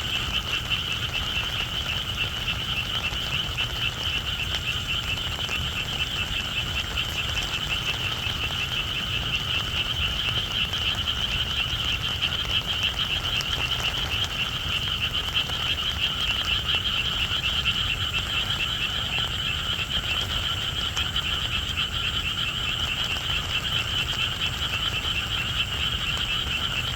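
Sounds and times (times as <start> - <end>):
frogs chorus trilling: 0.0 - 26.9.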